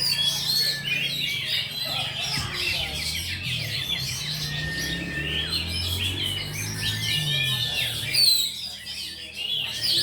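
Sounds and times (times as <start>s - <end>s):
songbirds chirping and whistling: 0.0s - 10.0s.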